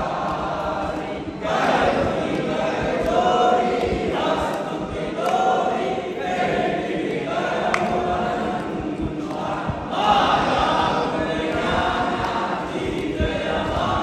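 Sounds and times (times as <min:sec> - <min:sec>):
group singing a hymn: 0:00.0 - 0:14.0.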